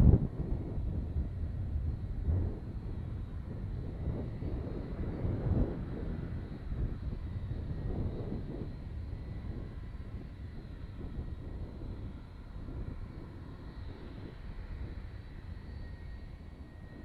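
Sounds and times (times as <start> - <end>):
jet engines rumbling with whine: 0.0 - 17.0.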